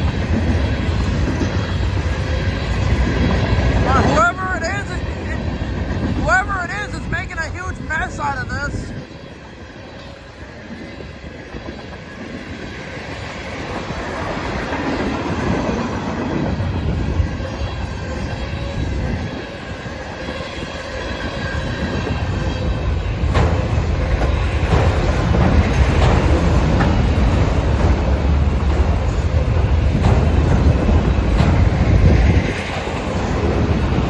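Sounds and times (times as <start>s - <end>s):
freight train rumbling and clacking: 0.0s - 34.0s.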